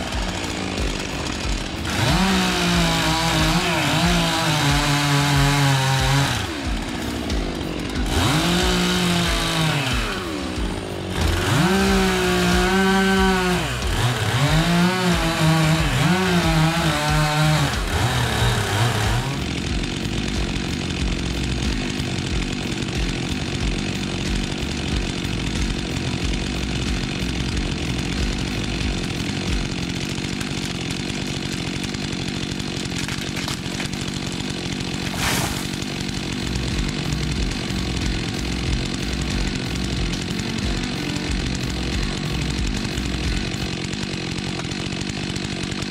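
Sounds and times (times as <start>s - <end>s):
chainsaw running: 0.0s - 45.9s.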